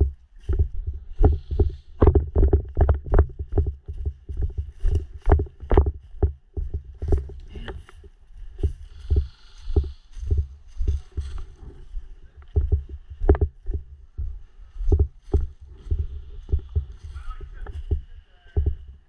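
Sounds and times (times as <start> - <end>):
footsteps at a brisk walk: 0.0 - 19.0.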